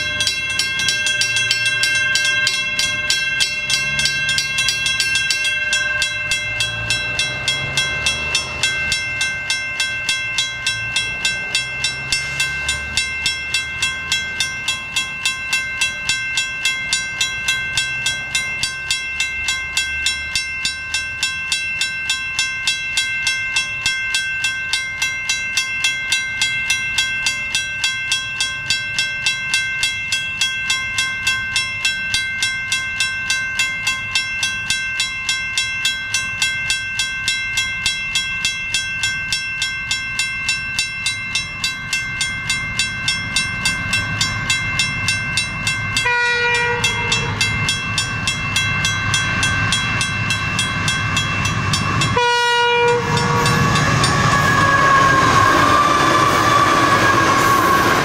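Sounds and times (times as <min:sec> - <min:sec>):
level crossing bells ringing: 0:00.0 - 0:58.0.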